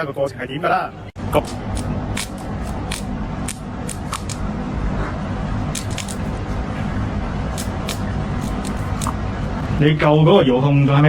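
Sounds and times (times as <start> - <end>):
steady low rumble: 1.0 - 11.0.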